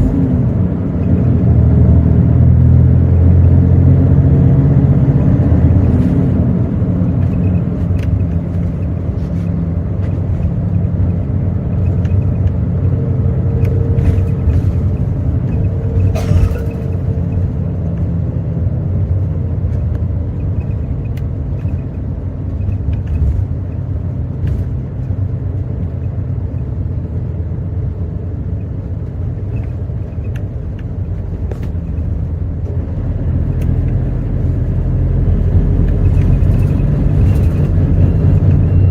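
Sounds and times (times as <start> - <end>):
bus engine drone from inside: 0.0 - 38.9.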